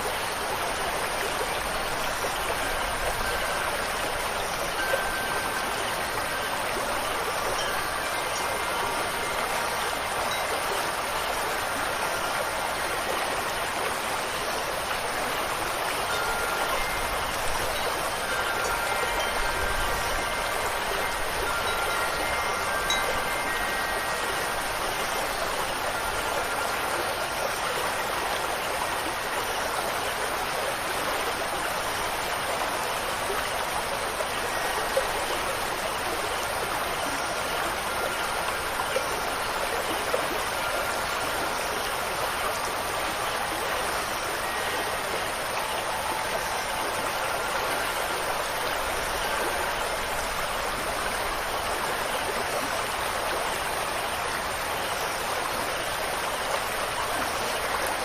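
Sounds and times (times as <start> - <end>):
running water rushing: 0.0 - 58.0
wind chime notes: 1.0 - 28.4, 33.3 - 58.0.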